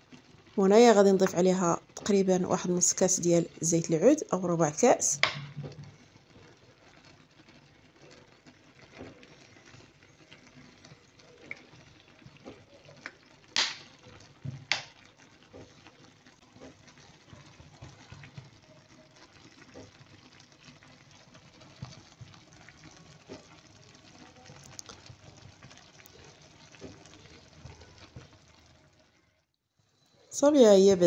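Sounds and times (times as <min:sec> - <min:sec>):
food simmering bubbling and popping: 0:00.0 - 0:29.2.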